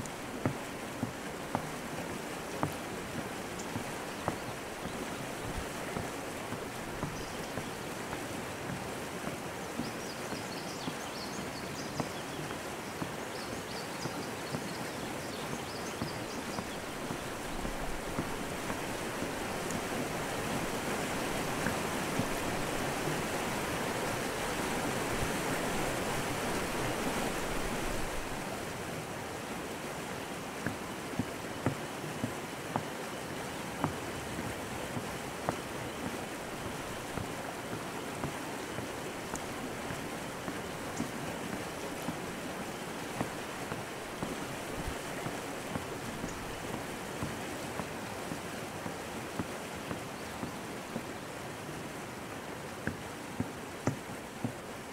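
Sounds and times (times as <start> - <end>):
footfalls on wooden bridge: 0.0 - 28.7, 30.5 - 54.9
creek running over rapids: 0.0 - 54.9.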